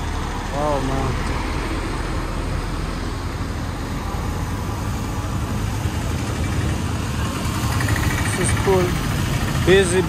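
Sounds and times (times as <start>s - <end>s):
street traffic noise: 0.0s - 10.0s
truck passing rumble: 0.0s - 10.0s.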